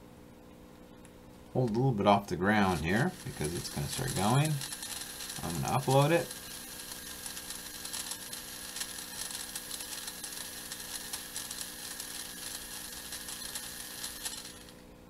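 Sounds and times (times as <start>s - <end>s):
small motors whirring: 2.5s - 14.8s
rapid gear clicking: 2.6s - 14.8s.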